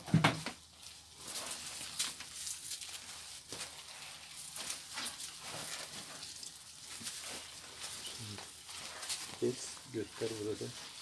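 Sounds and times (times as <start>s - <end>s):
grapes squelching underfoot: 0.7s - 11.0s.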